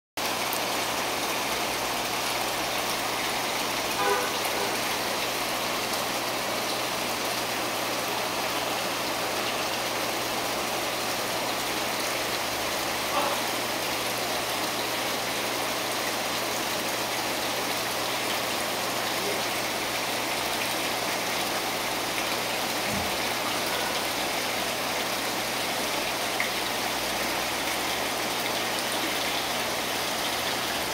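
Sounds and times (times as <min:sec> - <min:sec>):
aquarium water running: 0:00.2 - 0:30.9.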